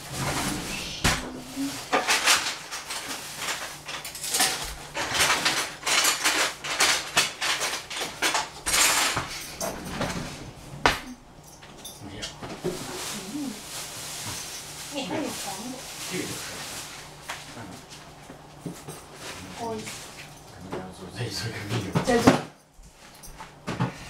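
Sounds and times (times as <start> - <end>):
utensils clattering: 0.0 - 24.0.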